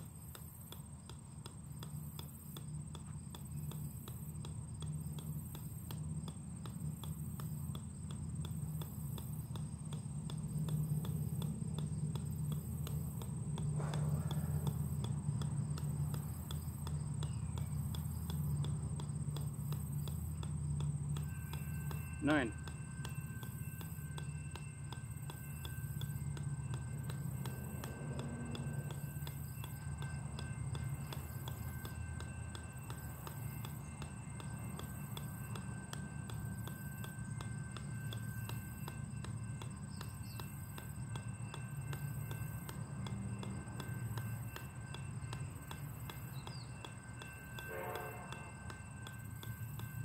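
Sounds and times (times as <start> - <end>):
ball bouncing on metal: 0.0 - 50.0.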